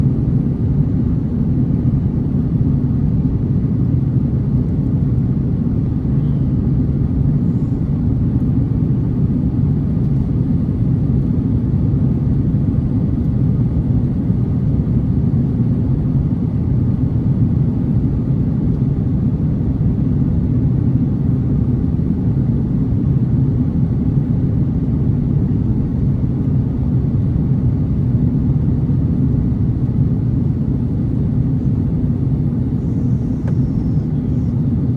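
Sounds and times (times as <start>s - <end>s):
aircraft cabin rumble: 0.0s - 34.9s.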